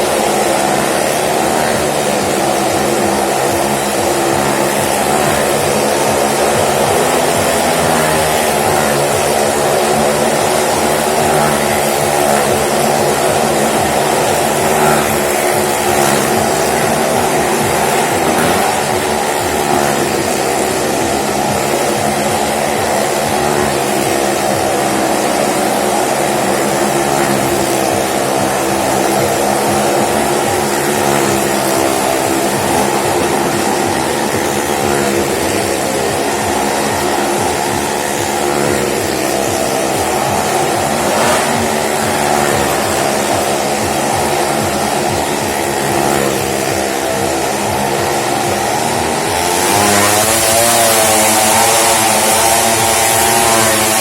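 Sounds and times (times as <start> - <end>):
vehicle engines droning: 0.0 - 54.0.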